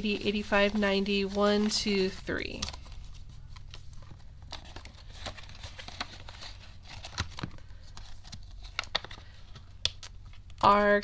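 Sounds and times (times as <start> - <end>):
binder pages flipping: 0.0 - 11.0
paper banknotes rustling: 0.0 - 11.0.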